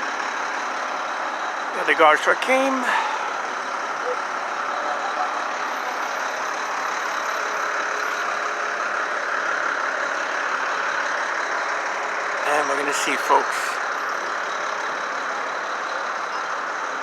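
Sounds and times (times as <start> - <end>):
traffic: 0.0 - 17.0
truck engines idling: 0.0 - 17.0.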